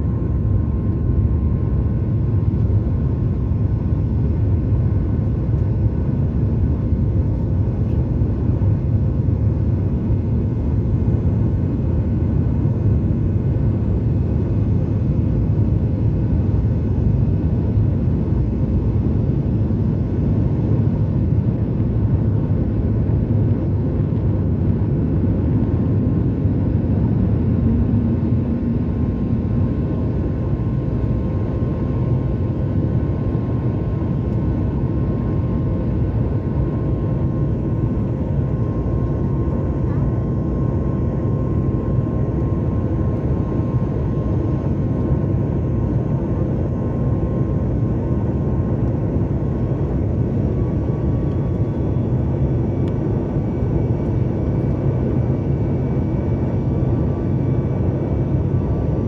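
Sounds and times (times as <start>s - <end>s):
faint steady whine: 0.0s - 59.0s
turbofan engine drone: 0.0s - 59.0s.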